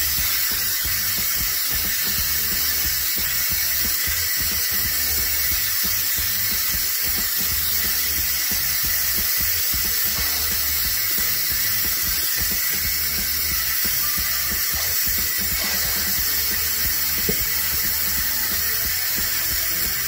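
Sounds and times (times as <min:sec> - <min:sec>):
pressure cooker steam hissing: 0:00.0 - 0:20.0.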